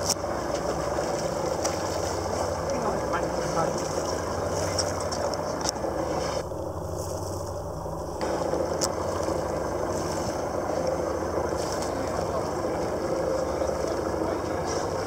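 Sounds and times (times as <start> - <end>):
boat engine humming: 0.0 - 15.0
water and air noise: 0.0 - 15.0.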